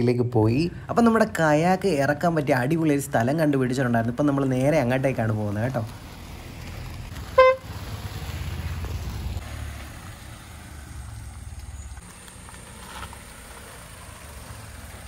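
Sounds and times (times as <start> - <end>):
car driving slowly: 0.0 - 15.0.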